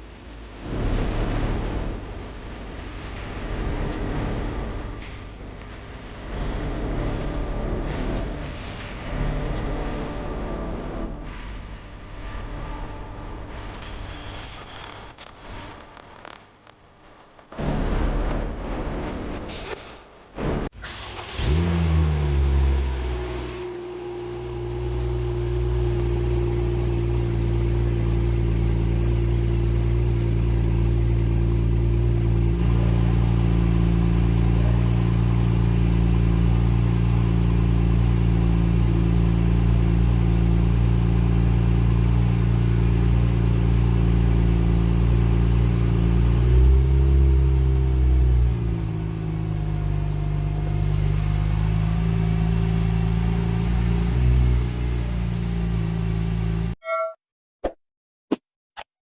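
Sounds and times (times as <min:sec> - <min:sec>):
car engine idling and revving: 0:00.0 - 0:14.1, 0:20.5 - 0:56.8.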